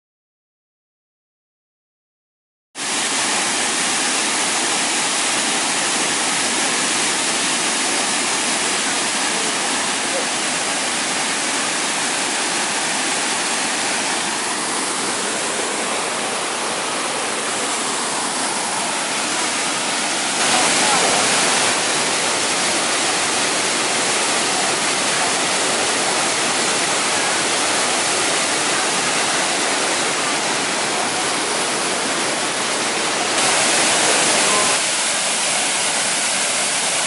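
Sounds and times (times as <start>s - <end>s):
rush of falling water: 2.8s - 37.0s.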